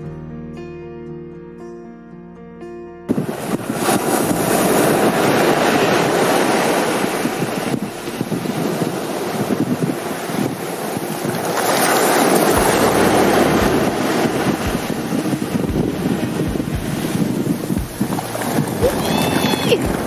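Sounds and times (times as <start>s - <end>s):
small surf washing up beach: 3.1s - 20.0s
wind buffeting microphone: 3.1s - 20.0s.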